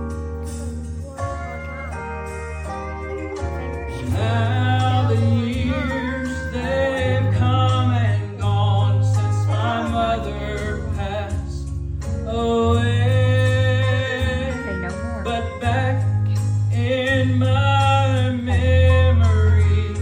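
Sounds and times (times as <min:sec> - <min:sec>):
instrumental accompaniment with bass: 0:00.0 - 0:20.0
man singing with vibrato: 0:03.5 - 0:20.0.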